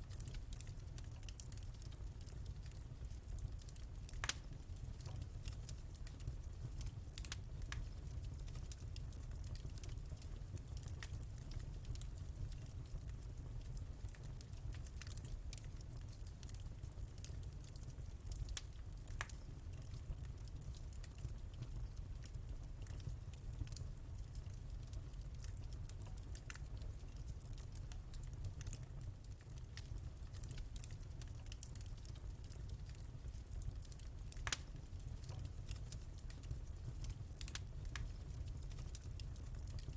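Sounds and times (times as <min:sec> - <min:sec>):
fire crackling and popping: 0:00.0 - 0:39.9
fire flames rumbling: 0:00.1 - 0:39.9.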